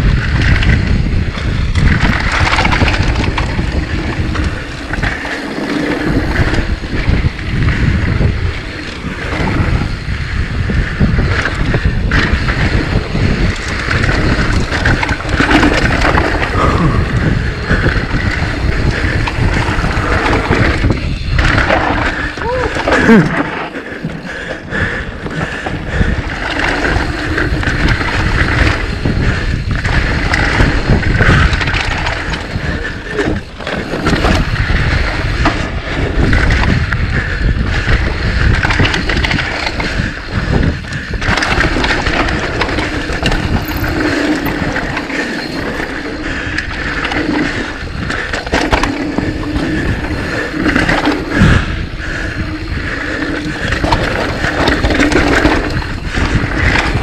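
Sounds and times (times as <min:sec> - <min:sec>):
bike rumbling over rough ground: 0:00.0 - 0:57.0.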